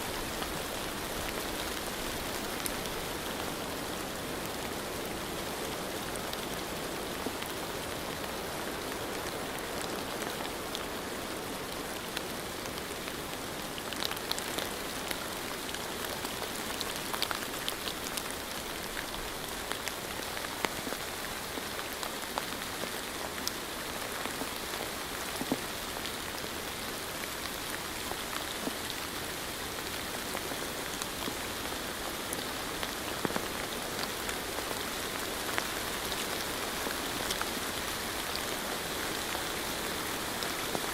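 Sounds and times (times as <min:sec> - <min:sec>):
steady rain hiss: 0:00.0 - 0:40.9
raindrops ticking on a surface: 0:00.1 - 0:40.9.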